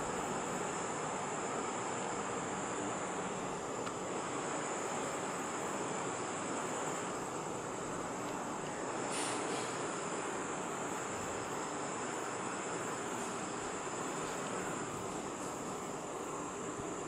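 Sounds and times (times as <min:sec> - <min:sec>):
background hiss: 0:00.0 - 0:17.0
high-pitched insect chorus: 0:00.0 - 0:17.0.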